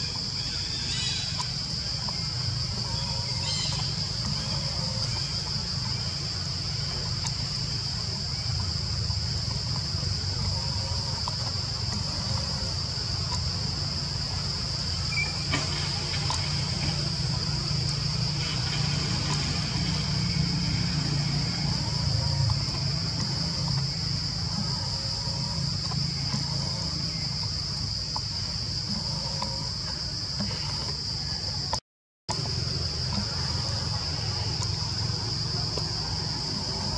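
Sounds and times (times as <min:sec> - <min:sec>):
high-pitched insect drone: 0:00.0 - 0:31.7, 0:32.3 - 0:36.9.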